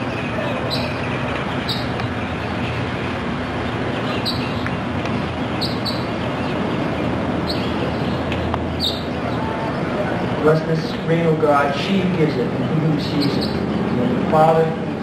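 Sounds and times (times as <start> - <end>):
bird chirping: 0.0 - 15.0
low rumble and hiss: 0.0 - 15.0.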